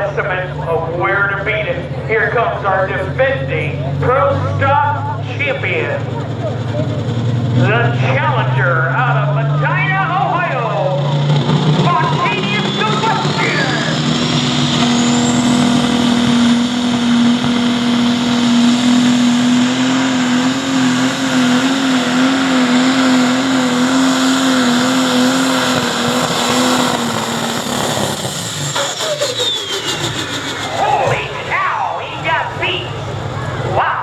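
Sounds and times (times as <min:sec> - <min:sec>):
diesel tractor engine at full throttle: 0:00.0 - 0:34.0.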